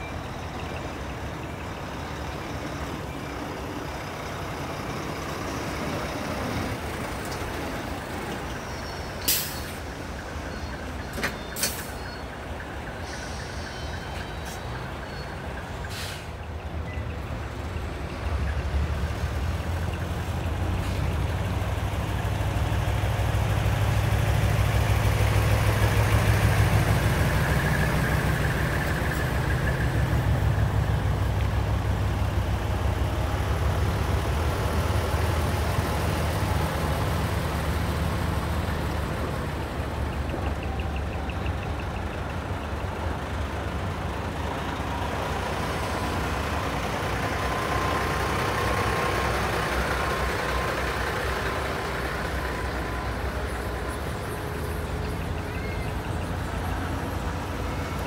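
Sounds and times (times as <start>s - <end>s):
diesel trucks rumbling past: 0.0s - 58.0s.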